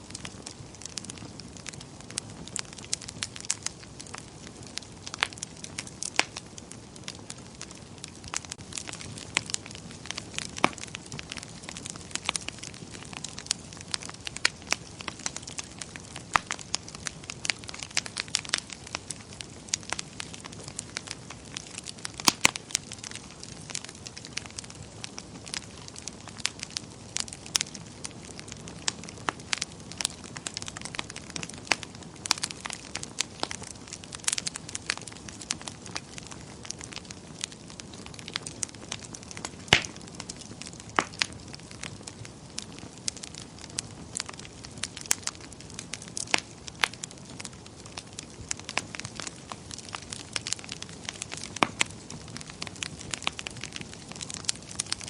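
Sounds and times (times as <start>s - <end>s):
soft steady hiss: 0.0s - 55.0s
wood fire crackling and popping: 0.0s - 55.0s.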